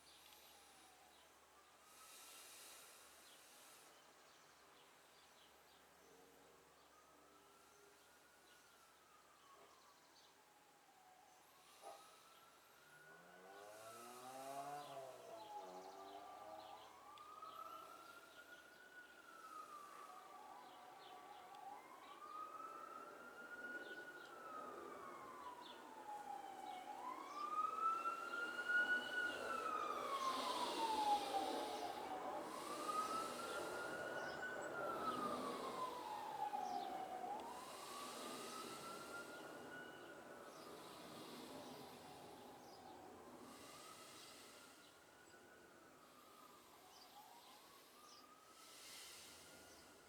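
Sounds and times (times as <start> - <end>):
emergency vehicle siren wailing: 6.6 - 50.0.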